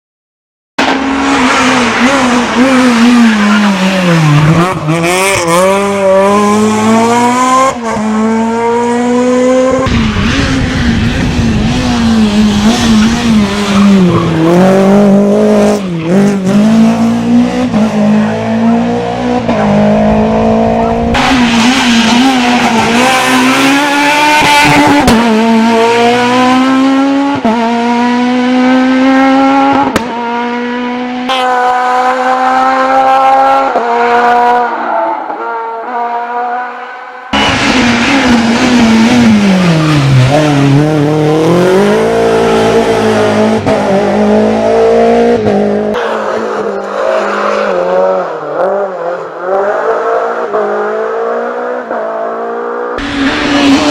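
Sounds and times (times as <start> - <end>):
rally car engines at full throttle: 0.8 - 53.9.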